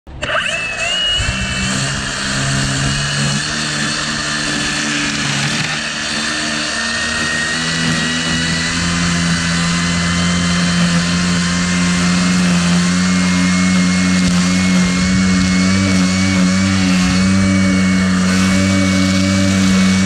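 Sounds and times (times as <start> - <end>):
high steady whine: 0.1 - 20.0
string trimmer cutting grass: 0.1 - 20.0.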